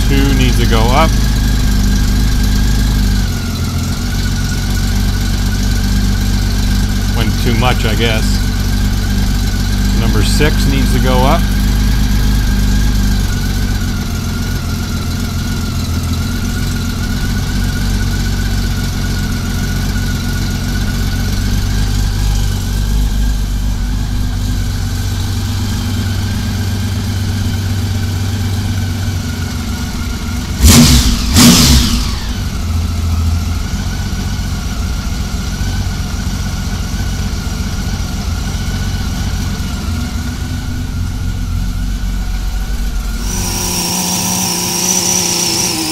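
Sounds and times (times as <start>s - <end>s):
engine throttle blips: 0.0s - 45.9s
motorcycle engine idling: 0.0s - 45.9s.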